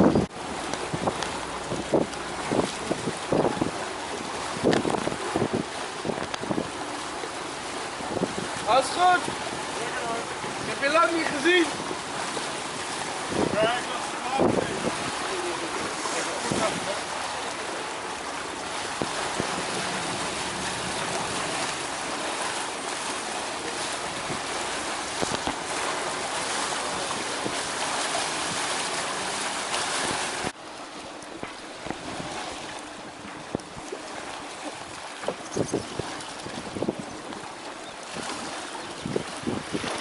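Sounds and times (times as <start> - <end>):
wind buffeting microphone: 0.0 - 30.6, 31.4 - 40.0
wind and water rushing: 0.0 - 40.0.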